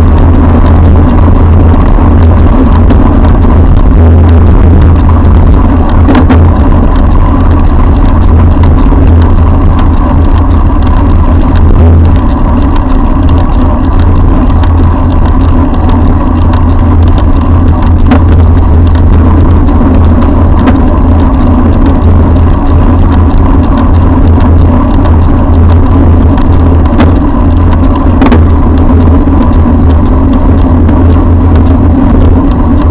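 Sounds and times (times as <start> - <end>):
motor traffic: 0.0 - 32.9
sharp ticks: 0.0 - 32.9
wind and road rumble: 0.0 - 32.9.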